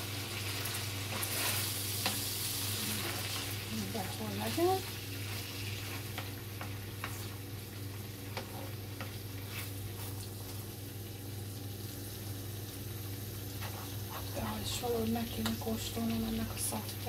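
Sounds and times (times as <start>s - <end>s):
chicken sizzling in frying pan: 0.0s - 17.0s.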